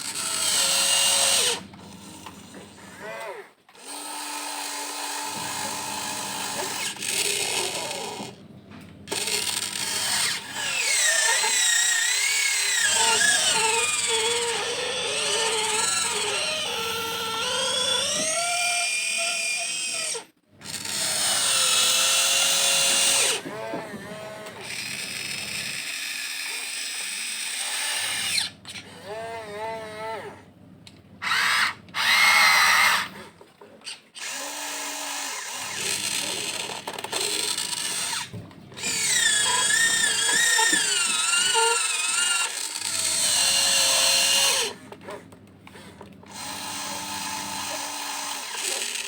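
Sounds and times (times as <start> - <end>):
electric motors and gears whining: 0.0 - 49.0.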